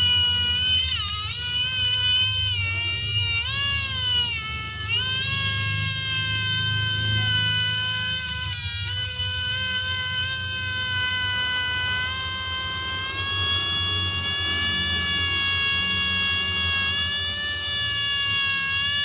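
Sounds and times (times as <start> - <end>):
small motor high-pitched whine: 0.0 - 19.0.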